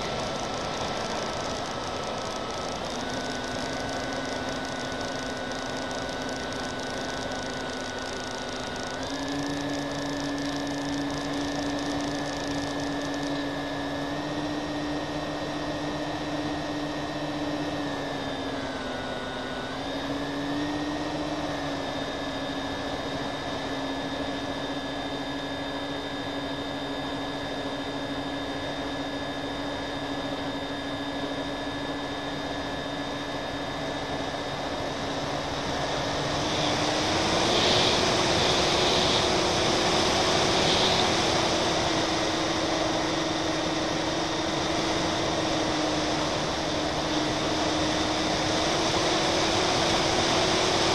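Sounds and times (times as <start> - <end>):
model plane motors whining: 0.0 - 50.9.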